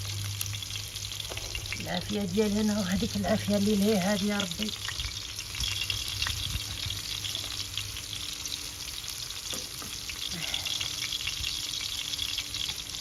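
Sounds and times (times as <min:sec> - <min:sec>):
fish sizzling in hot oil: 0:00.0 - 0:13.0
wood fire crackling: 0:00.0 - 0:13.0.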